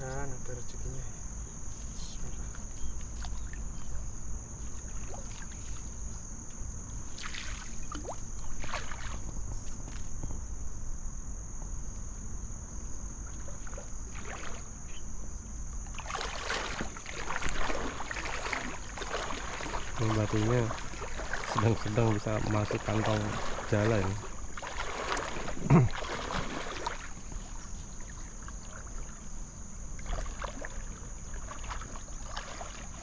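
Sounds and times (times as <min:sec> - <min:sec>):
insect trill: 0:00.0 - 0:33.0
water splashing and sloshing: 0:01.7 - 0:10.2, 0:12.8 - 0:15.0, 0:15.8 - 0:33.0.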